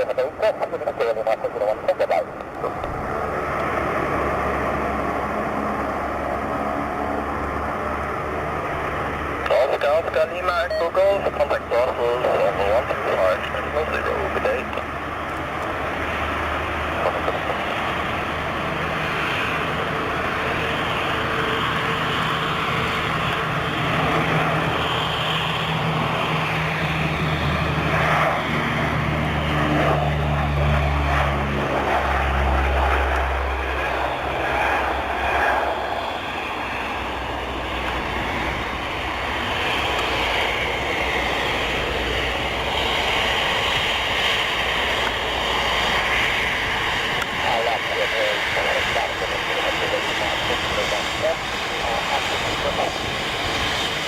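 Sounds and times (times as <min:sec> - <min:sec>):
turboprop engines droning roar: 0:00.0 - 0:54.0.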